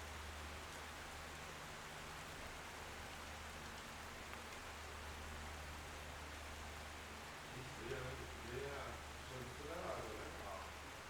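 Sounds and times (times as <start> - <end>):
steady rain patter: 0.0 - 11.0.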